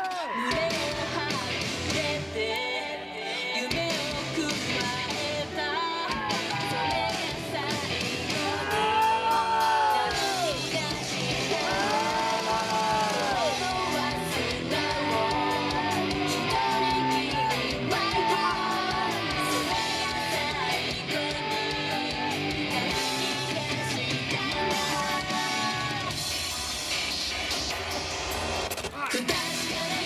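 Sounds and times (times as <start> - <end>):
rock band with electric guitar: 0.0 - 2.4, 3.7 - 30.0
women singing rock song: 0.3 - 27.4, 29.2 - 30.0.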